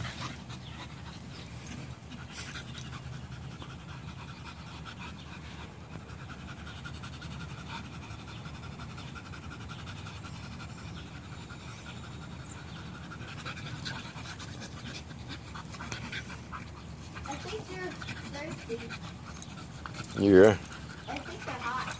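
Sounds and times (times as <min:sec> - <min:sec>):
dogs panting: 0:00.0 - 0:21.9.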